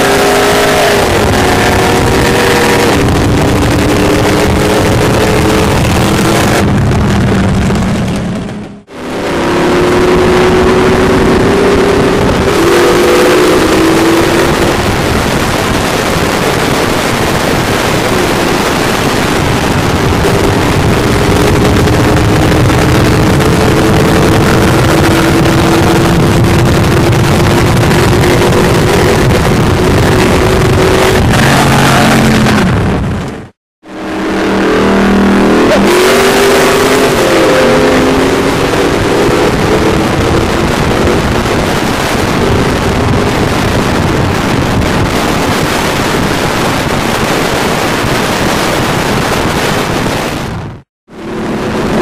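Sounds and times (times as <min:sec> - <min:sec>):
car engines at full throttle: 0:00.0 - 0:52.0
wind rush: 0:00.0 - 0:52.0.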